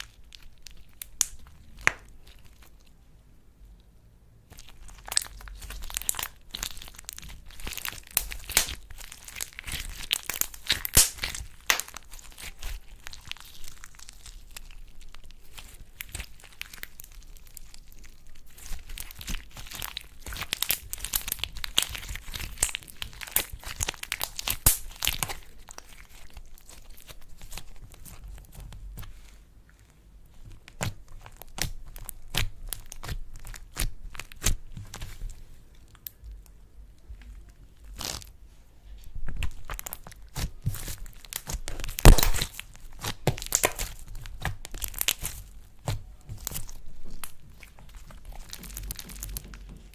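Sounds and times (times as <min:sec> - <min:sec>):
slime crackling and popping: 0:00.0 - 0:03.0, 0:04.5 - 0:36.5, 0:37.1 - 0:38.4, 0:39.1 - 0:49.9.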